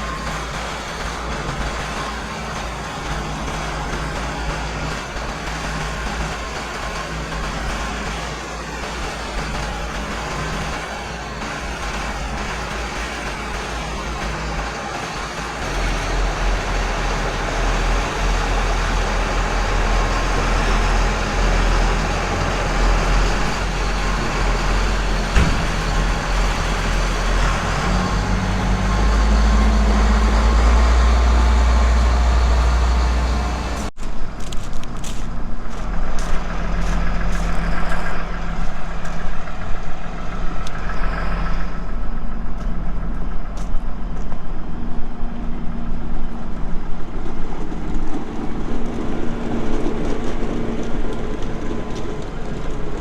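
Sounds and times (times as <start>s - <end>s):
knocks and rattles: 0.0s - 44.5s
diesel engine running: 0.0s - 53.0s.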